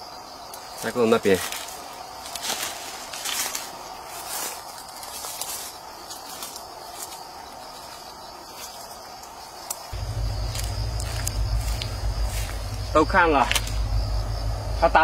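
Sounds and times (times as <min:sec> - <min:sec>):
insects droning: 0:00.0 - 0:15.0
rustles and footsteps: 0:00.6 - 0:14.0.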